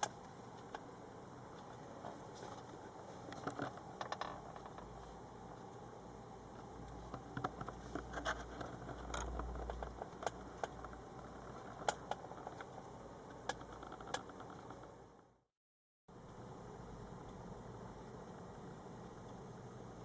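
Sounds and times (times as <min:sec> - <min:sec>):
faint low hum: 0:00.0 - 0:15.4, 0:16.1 - 0:20.0.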